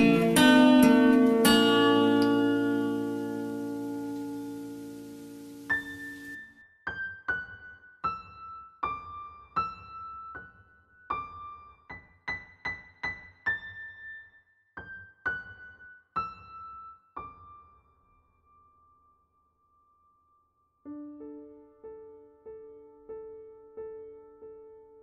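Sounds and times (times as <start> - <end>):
slow piano melody: 0.0 - 25.0.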